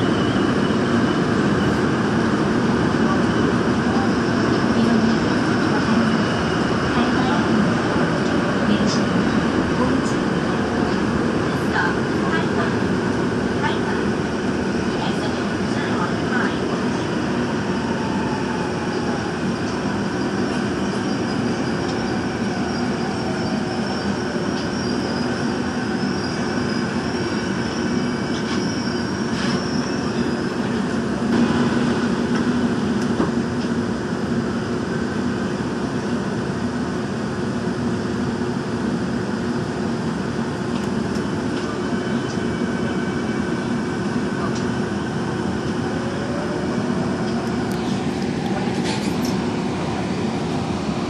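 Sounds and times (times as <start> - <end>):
subway train rumbling: 0.0 - 51.0.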